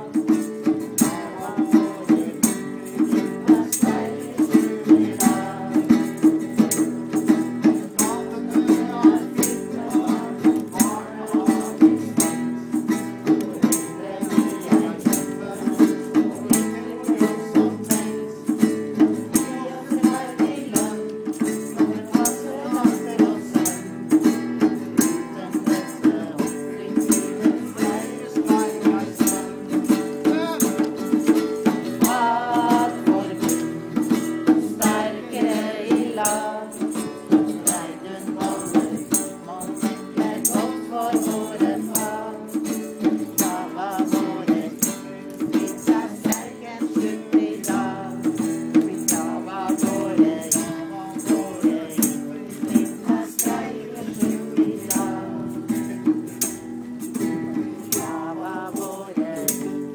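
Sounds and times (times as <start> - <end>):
acoustic guitar: 0.0 - 59.9
crowd singing along: 0.0 - 59.9
rattling hand percussion: 0.0 - 59.9.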